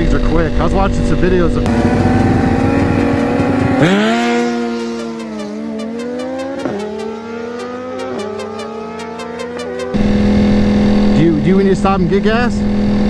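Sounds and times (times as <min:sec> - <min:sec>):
sportbike engine accelerating: 0:00.0 - 0:13.0.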